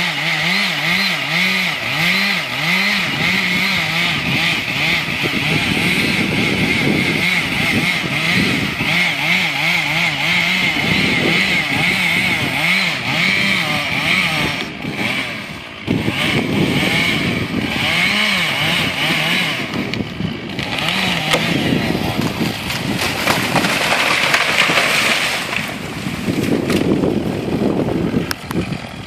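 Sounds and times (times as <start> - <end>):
chainsaw cutting tree trunk: 0.0 - 29.0.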